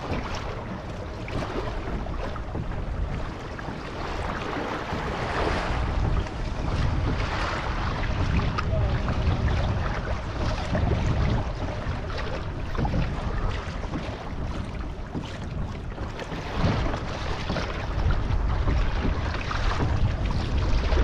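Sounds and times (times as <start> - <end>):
water slapping against kayak hull: 0.0 - 21.0
wind buffeting microphone: 0.0 - 21.0.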